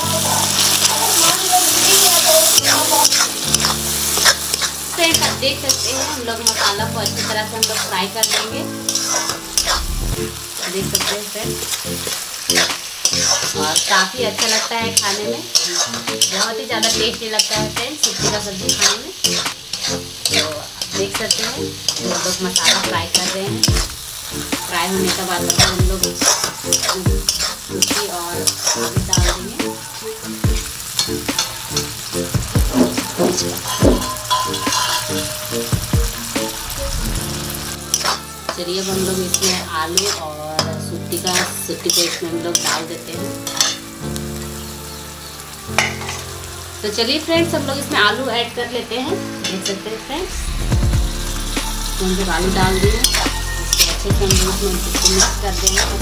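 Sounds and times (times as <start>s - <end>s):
food sizzling in a pan: 0.0s - 56.0s
spatula scraping a pan: 0.1s - 29.8s, 30.5s - 36.3s, 37.1s - 43.9s, 45.8s - 46.3s, 52.6s - 56.0s.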